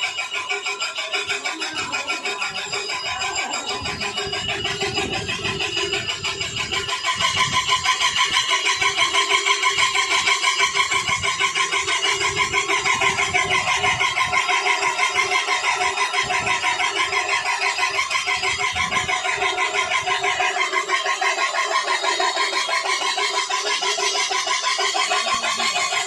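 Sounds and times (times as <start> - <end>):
power grinder pulsing whine: 0.0 - 26.0.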